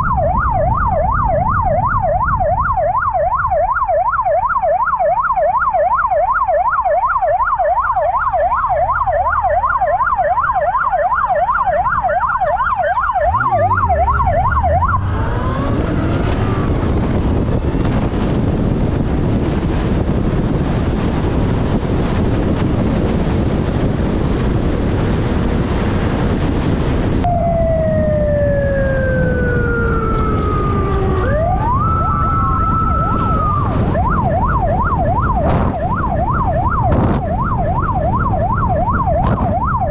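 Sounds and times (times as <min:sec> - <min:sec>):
police siren yelp and wail: 0:00.0 - 0:39.9
rushing wind and road noise: 0:00.0 - 0:39.9.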